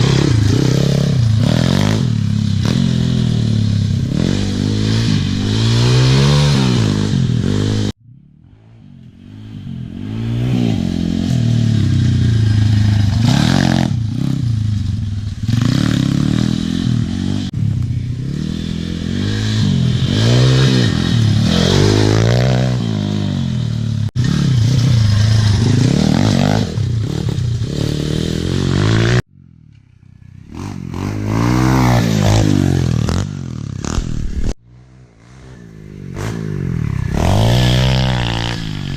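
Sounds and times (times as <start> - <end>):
motorbike engines revving: 0.0 - 38.9.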